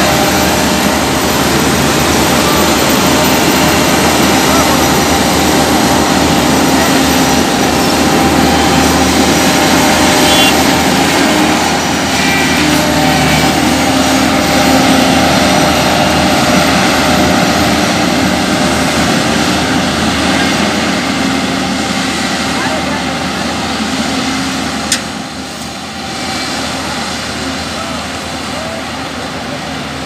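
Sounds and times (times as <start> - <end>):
heavy diesel machinery engines: 0.0 - 30.0.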